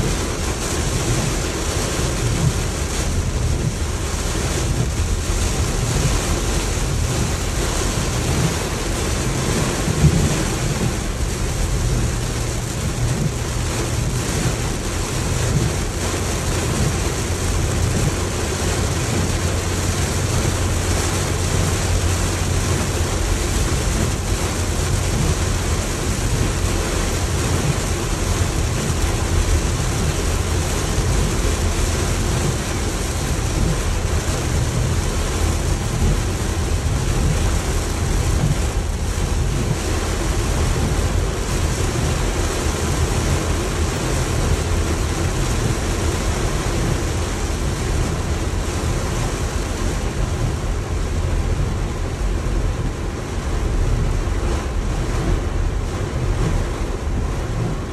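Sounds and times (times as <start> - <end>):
car road rumble: 0.0 - 57.9
heavy rain on car roof: 0.0 - 57.9.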